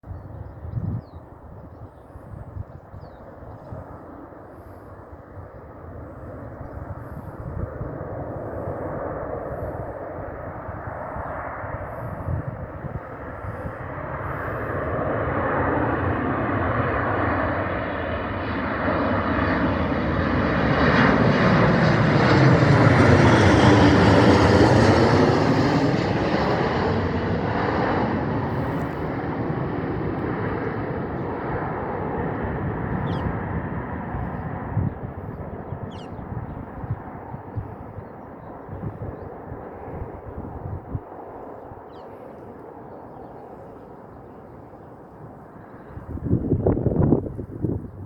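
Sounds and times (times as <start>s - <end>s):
jet plane passing by: 0.1s - 48.0s.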